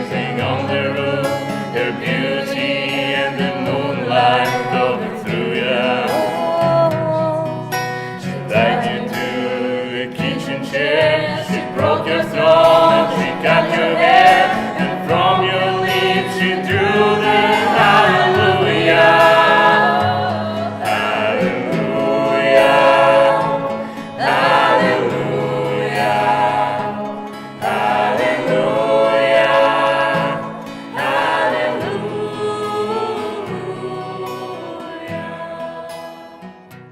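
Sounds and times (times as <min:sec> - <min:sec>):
acoustic guitar: 0:00.0 - 0:36.9
people singing together: 0:00.0 - 0:36.9.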